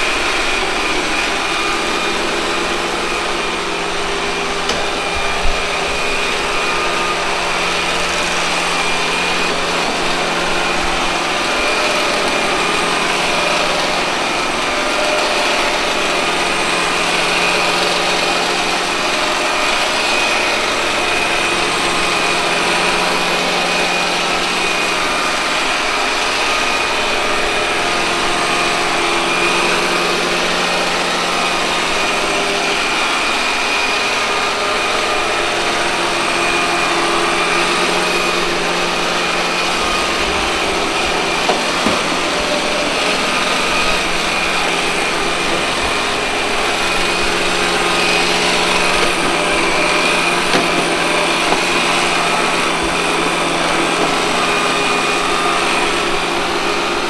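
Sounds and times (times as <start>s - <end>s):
robot vacuum cleaner whine: 0.0s - 57.0s.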